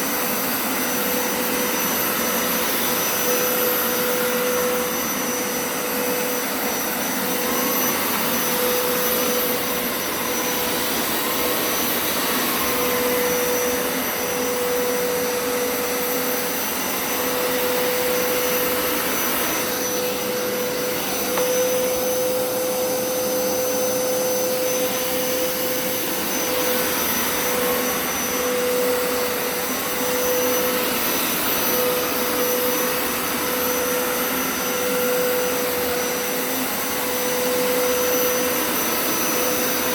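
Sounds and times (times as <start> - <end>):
carpet cleaner motor whine: 0.0 - 39.9.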